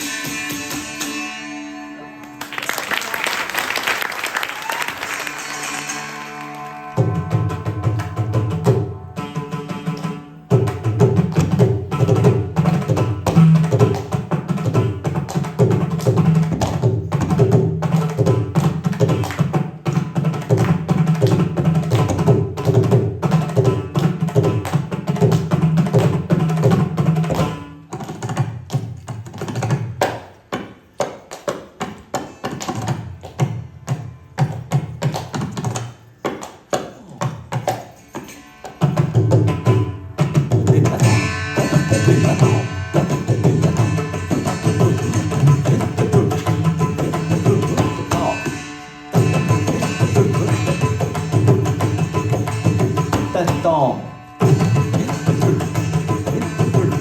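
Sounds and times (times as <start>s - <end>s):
hand drums playing: 5.6s - 57.0s.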